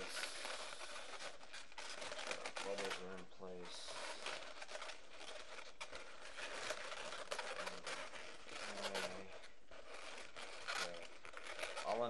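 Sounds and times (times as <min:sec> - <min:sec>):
balloon squeaks: 0:00.0 - 0:12.0
balloons rubbing crinkly rustle: 0:00.0 - 0:12.0.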